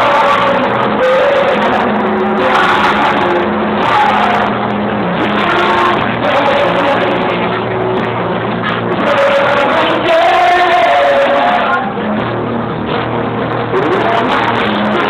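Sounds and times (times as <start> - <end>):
person singing: 0.0 - 8.1, 8.8 - 12.1, 13.7 - 15.0
strummed acoustic guitars: 0.0 - 15.0.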